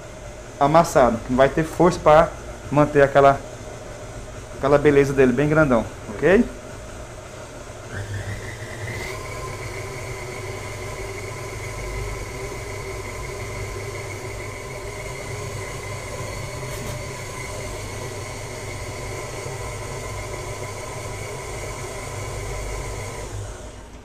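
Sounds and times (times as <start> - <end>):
stand mixer motor whine: 0.0 - 24.0.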